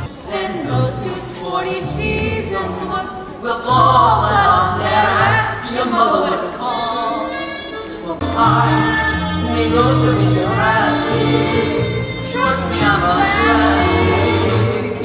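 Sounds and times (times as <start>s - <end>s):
children singing together: 0.0s - 15.0s
musical accompaniment with bass: 0.0s - 15.0s.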